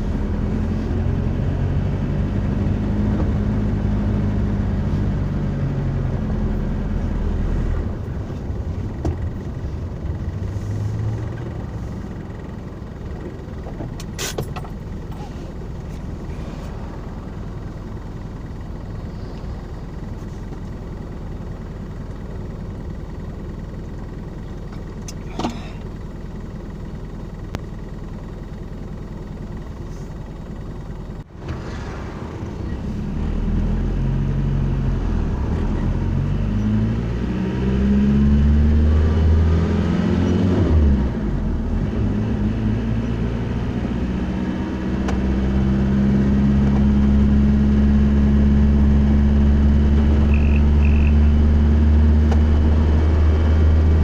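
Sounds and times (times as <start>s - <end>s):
car engine accelerating: 0.0s - 22.8s, 31.2s - 54.0s
road noise: 0.0s - 54.0s.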